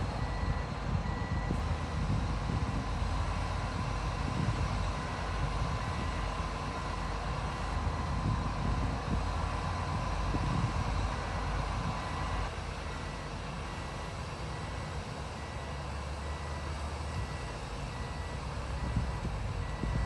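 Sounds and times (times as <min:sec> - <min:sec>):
heavy machinery diesel engines rumbling: 0:00.0 - 0:20.0.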